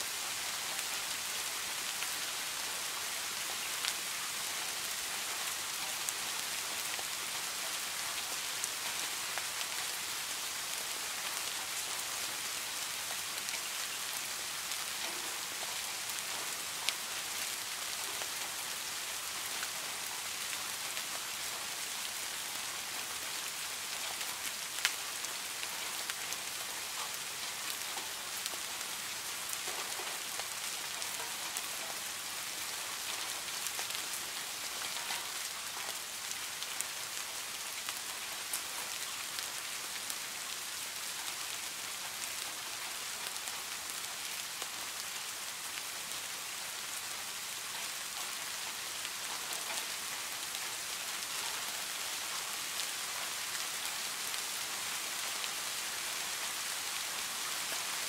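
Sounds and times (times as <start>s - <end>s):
rain on pond water: 0.0s - 58.0s.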